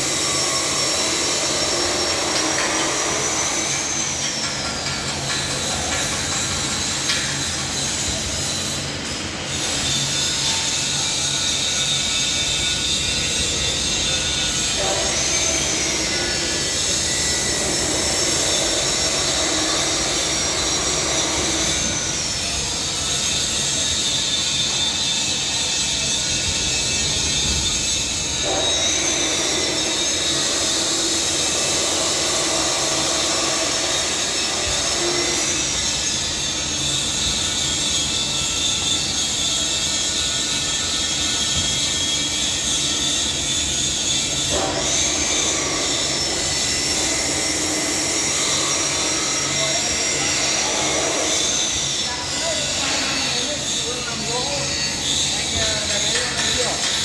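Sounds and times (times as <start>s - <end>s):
loud machinery hiss: 0.0s - 57.0s.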